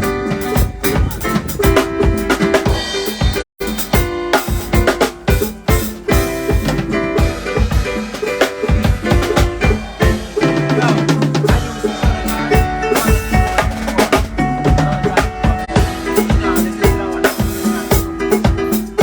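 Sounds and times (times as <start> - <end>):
loud music with heavy drum beat: 0.0 - 19.0.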